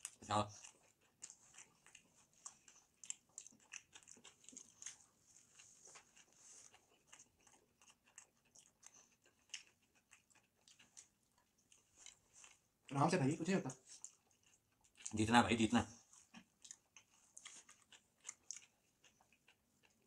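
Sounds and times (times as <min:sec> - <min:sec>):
people chewing: 0:00.0 - 0:20.0.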